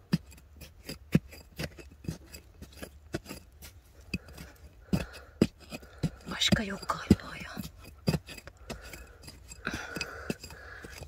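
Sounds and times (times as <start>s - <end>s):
hand digging through stones: 0.0s - 11.0s.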